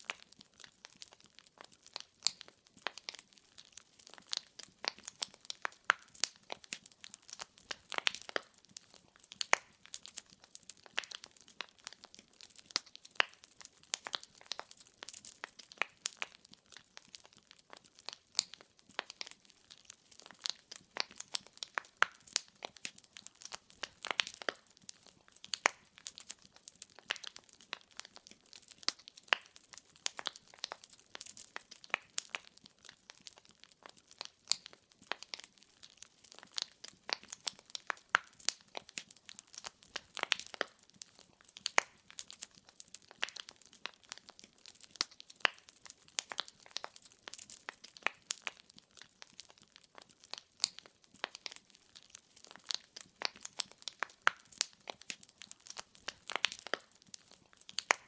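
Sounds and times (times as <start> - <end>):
logs crackling in fireplace: 0.0 - 58.0.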